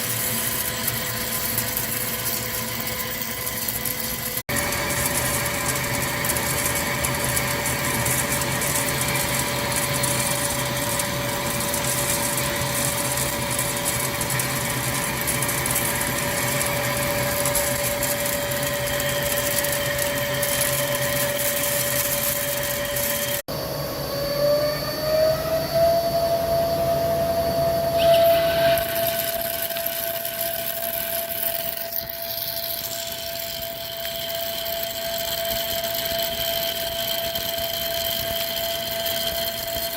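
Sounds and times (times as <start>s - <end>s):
hissing cutting noise: 0.0s - 23.5s, 27.9s - 39.9s
lathe machine whine: 0.0s - 39.9s.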